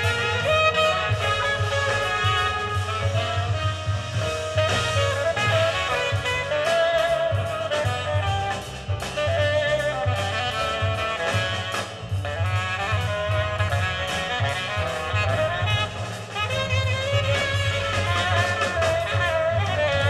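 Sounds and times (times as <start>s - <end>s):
jazz with tenor saxophone: 0.0s - 20.0s
pulsing bass line: 0.0s - 20.0s.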